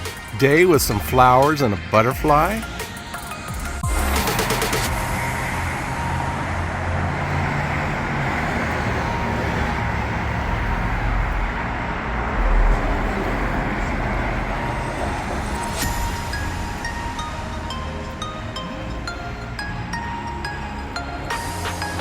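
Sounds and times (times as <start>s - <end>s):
road traffic passing: 0.0s - 22.0s
vehicle rumble going by: 0.0s - 22.0s.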